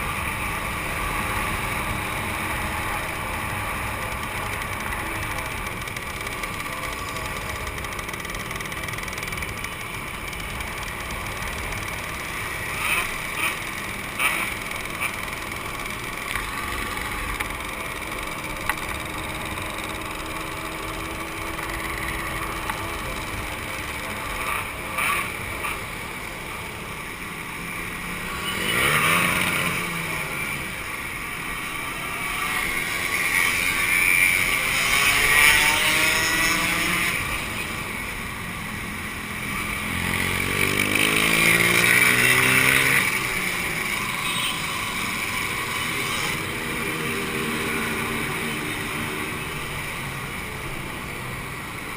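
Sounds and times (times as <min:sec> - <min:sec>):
two-stroke motorcycle engines running: 0:00.0 - 0:51.9
engine revving: 0:00.6 - 0:26.0, 0:28.1 - 0:30.9, 0:32.0 - 0:37.8, 0:39.5 - 0:49.2.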